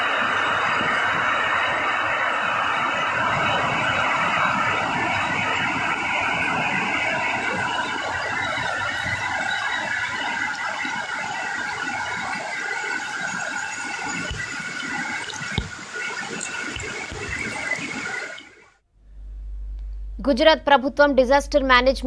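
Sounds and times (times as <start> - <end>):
floodwater rushing: 0.0 - 18.8.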